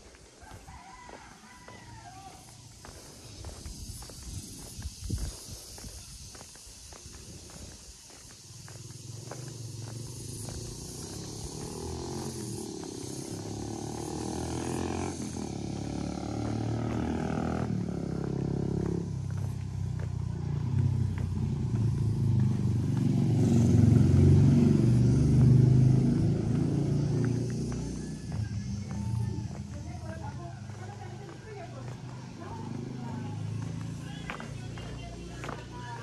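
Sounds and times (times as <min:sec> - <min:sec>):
vehicle engine running: 0:02.4 - 0:36.0.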